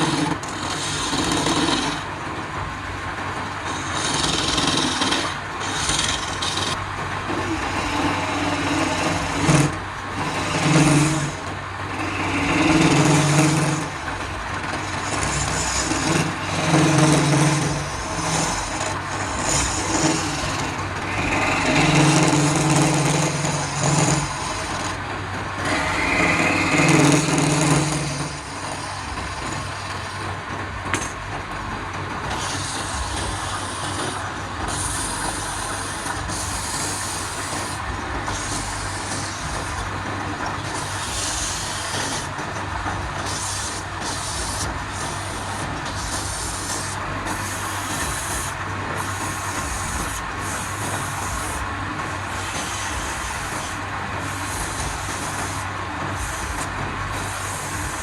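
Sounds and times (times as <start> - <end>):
lathe tool scraping wood: 0.0 - 58.0
wood lathe motor hum: 0.0 - 58.0.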